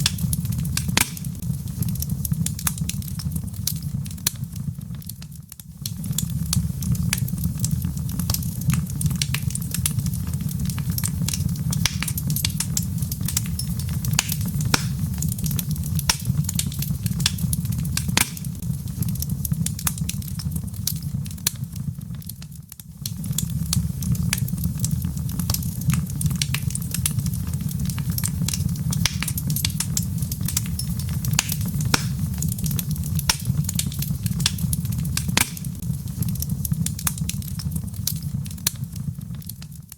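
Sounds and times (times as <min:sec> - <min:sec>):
low rumble of burning logs: 0:00.0 - 0:39.9
wood fire crackling and popping: 0:00.0 - 0:39.9.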